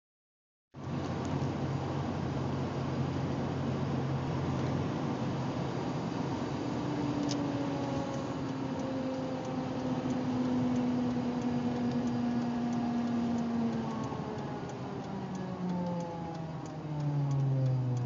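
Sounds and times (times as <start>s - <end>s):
road noise: 0.7s - 18.0s
car whine while coasting: 0.8s - 18.0s.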